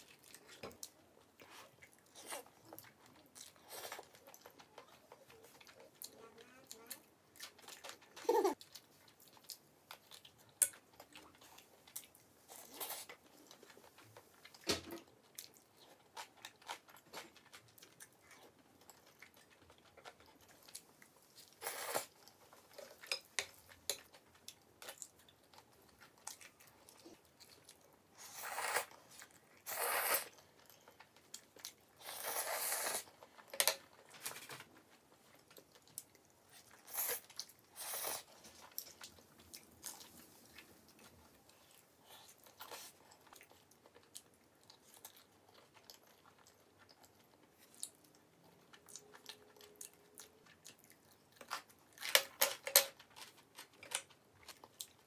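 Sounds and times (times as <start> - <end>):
biting and chewing food: 0.0 - 55.0.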